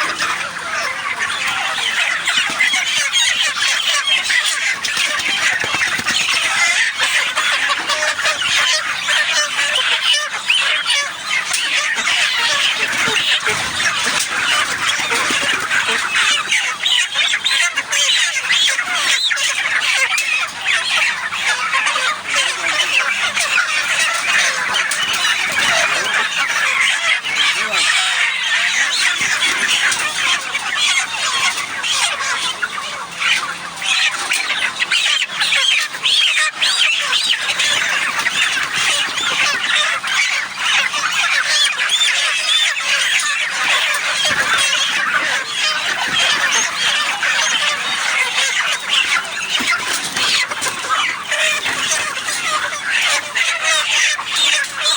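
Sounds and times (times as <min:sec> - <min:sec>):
chicks cheeping and clucking: 0:00.0 - 0:54.9.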